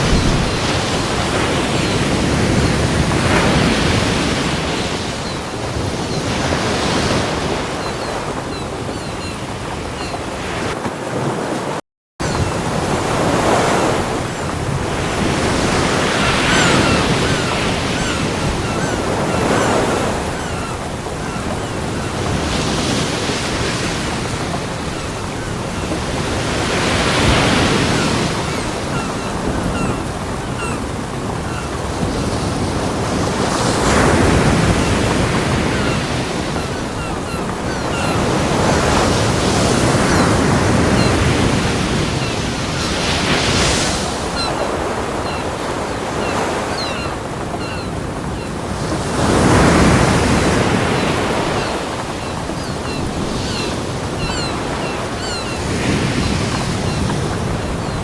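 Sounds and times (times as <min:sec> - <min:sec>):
ocean surf waves breaking: 0:00.0 - 0:58.0.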